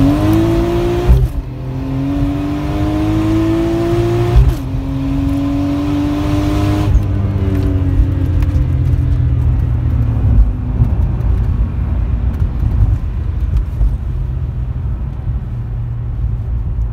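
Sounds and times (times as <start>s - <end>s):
car engine pulling hard: 0.0s - 15.6s.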